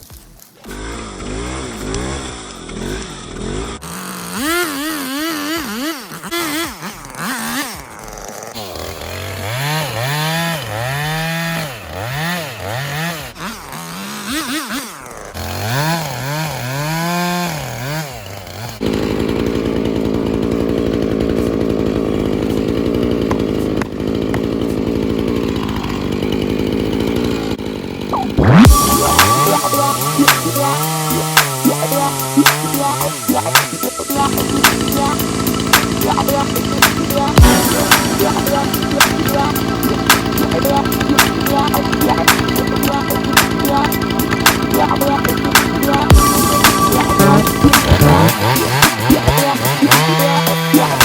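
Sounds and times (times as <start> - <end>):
chainsaw revving: 0.0 - 51.0.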